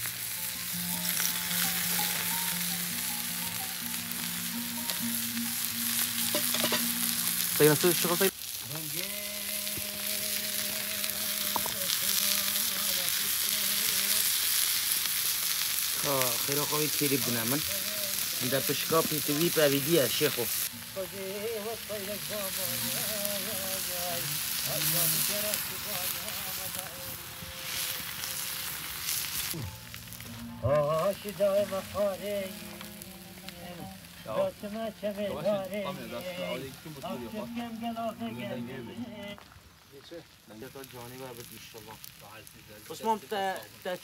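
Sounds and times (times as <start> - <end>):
meat sizzling on hot stone: 0.0 - 44.0.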